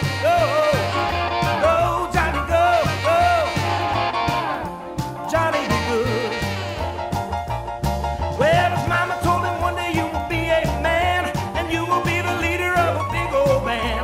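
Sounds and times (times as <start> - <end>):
upbeat song with steady beat: 0.0 - 14.0.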